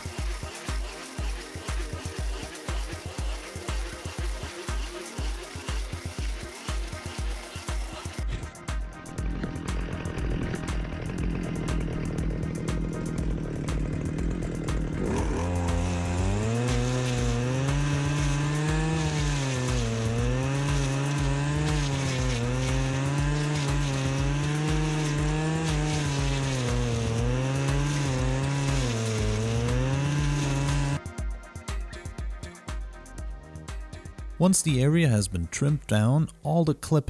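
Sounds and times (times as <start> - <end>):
brush cutter engine running: 0.0 - 31.0.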